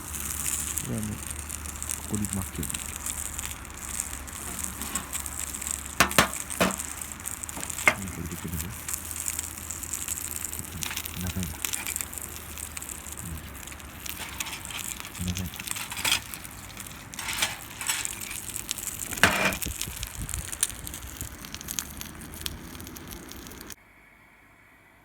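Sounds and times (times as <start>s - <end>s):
fire crackling and popping: 0.0s - 23.8s
rustling: 0.0s - 23.8s.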